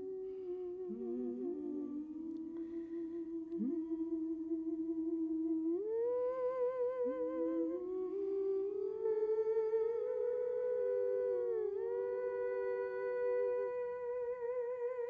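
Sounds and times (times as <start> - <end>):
layered humming voices with vibrato: 0.0 - 15.0.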